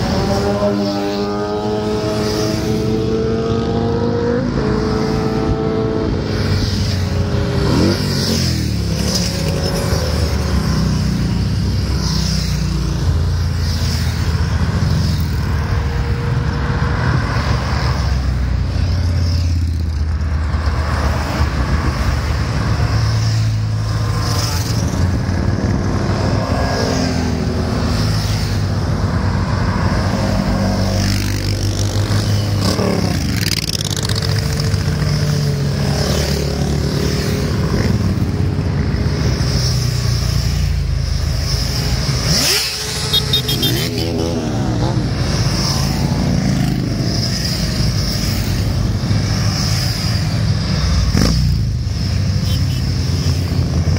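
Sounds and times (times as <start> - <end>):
motorcycles and cars driving past: 0.0 - 53.9.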